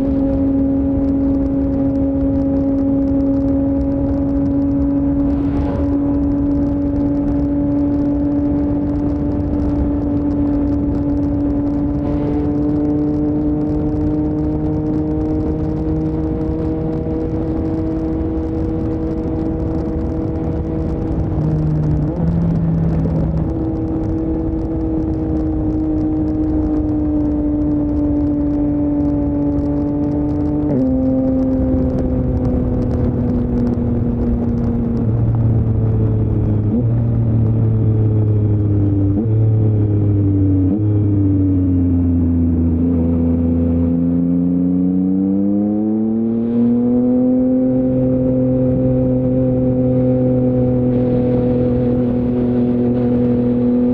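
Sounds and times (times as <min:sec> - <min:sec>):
wind rush: 0:00.0 - 0:44.4, 0:46.1 - 0:53.9
motorcycle engine revving: 0:00.0 - 0:53.9.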